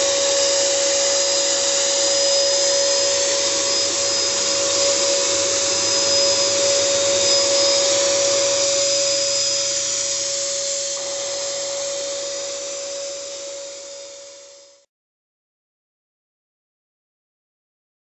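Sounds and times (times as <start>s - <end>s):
fogger motor hissing and whining: 0.0s - 14.8s.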